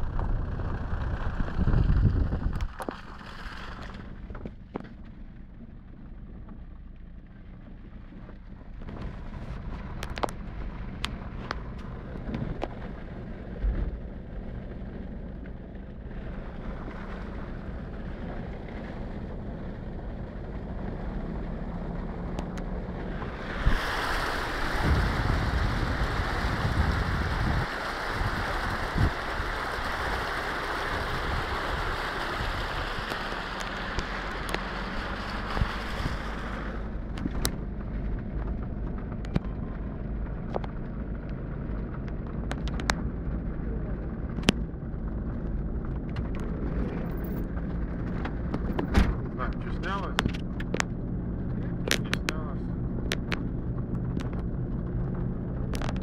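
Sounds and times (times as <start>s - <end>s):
car engine running at low speed: 0.0s - 56.0s
water rushing from car: 0.0s - 56.0s.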